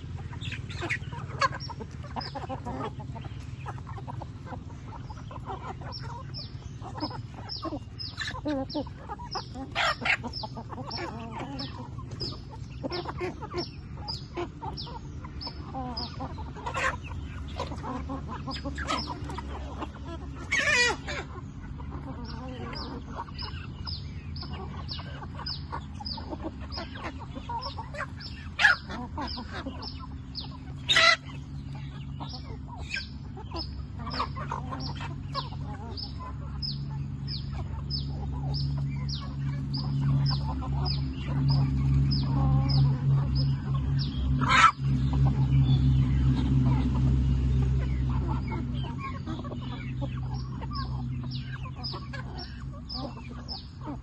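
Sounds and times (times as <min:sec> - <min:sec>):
chickens clucking: 0:00.0 - 0:54.0
loud chicken calls: 0:00.0 - 0:54.0.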